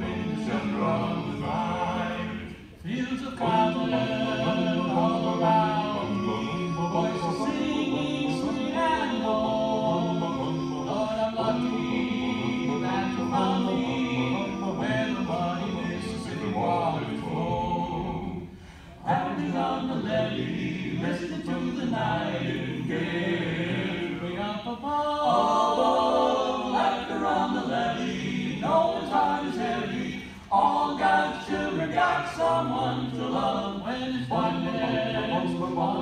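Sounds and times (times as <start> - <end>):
men singing a cappella harmony: 0.0 - 36.0.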